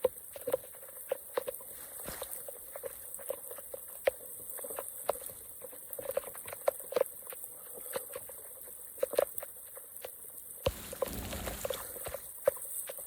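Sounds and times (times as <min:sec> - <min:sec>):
faint steady hiss: 0:00.0 - 0:13.0
water dripping and plopping: 0:00.0 - 0:13.0.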